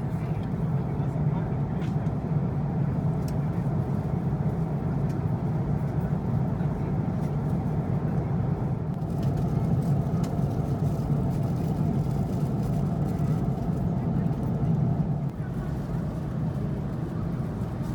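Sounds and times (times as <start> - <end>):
airliner cabin drone: 0.0 - 17.9.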